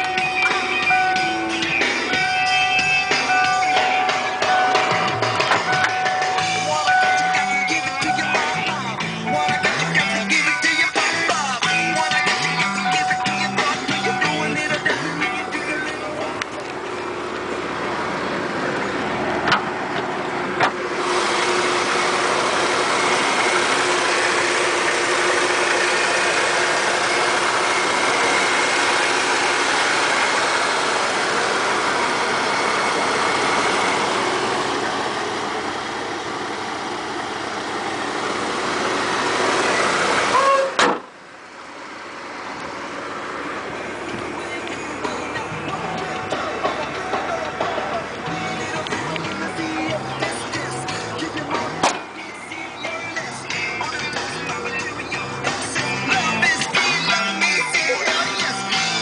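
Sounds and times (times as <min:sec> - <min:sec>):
truck engine and exhaust running: 0:00.0 - 0:59.0.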